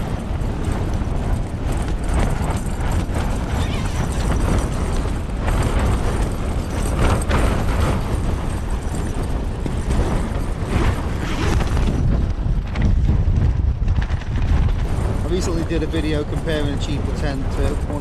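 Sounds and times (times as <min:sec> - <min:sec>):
strong gusting wind on microphone: 0:00.0 - 0:18.0
tent fabric shaking: 0:00.0 - 0:18.0.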